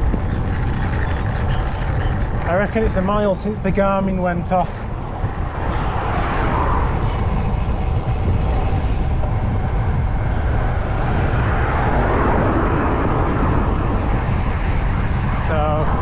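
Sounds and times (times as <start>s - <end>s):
bicycle tyre noise on tarmac: 0.0s - 16.0s
cars passing: 0.0s - 16.0s
wind buffeting microphone: 0.0s - 16.0s.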